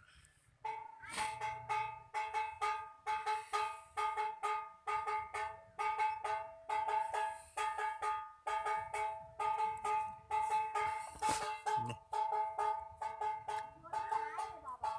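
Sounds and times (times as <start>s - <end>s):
plucked string tune: 0.6s - 14.9s.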